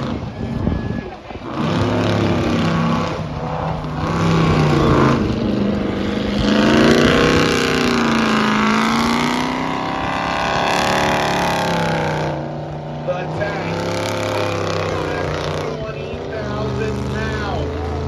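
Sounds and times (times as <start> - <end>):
tracked vehicle engine revving: 0.0 - 18.0.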